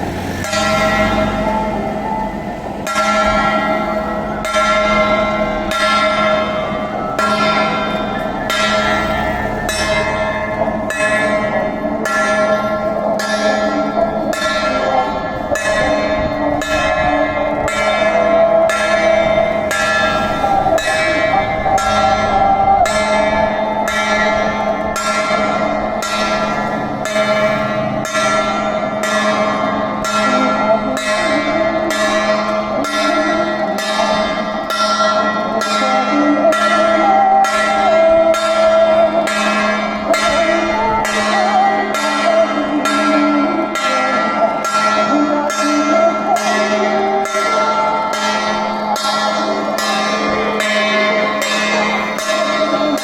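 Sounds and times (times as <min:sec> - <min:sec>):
bell-like metal percussion: 0:00.0 - 0:53.0.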